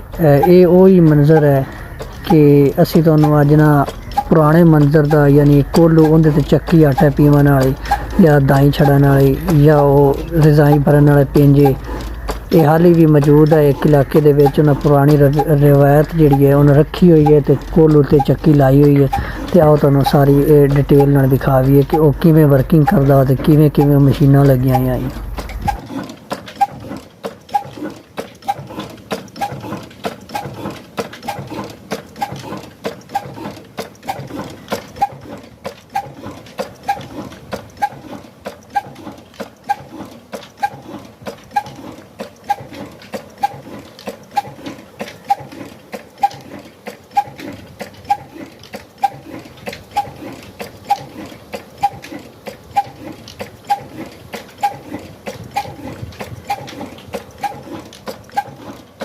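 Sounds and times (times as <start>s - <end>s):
diesel engine thudding: 0.0s - 59.0s.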